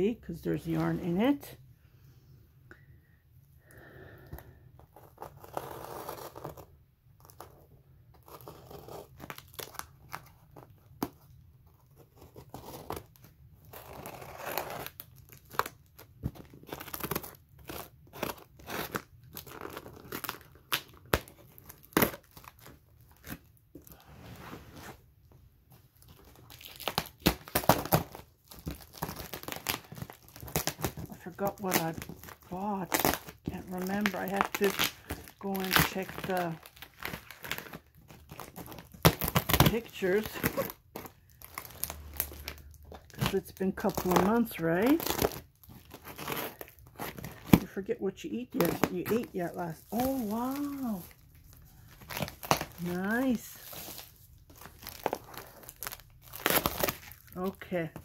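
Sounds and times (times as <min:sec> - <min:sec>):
plastic and tape tearing: 0:04.8 - 0:24.0, 0:26.0 - 0:58.0.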